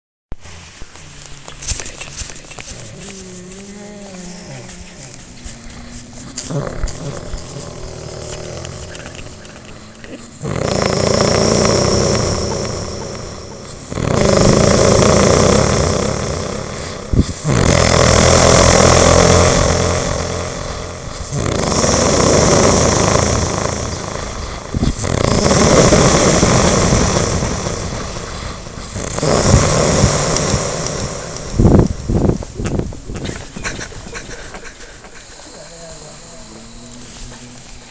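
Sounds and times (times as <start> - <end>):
rough snore-like noises: 1.8 - 32.4, 35.3 - 37.9.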